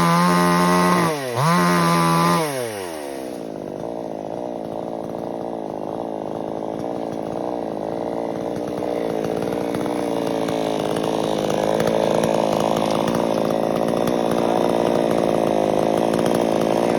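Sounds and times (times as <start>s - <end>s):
chainsaw running under load: 0.0s - 16.9s.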